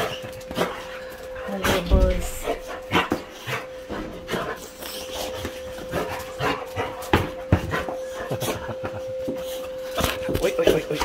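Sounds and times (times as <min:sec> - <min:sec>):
steady humming tone: 0:00.0 - 0:11.0.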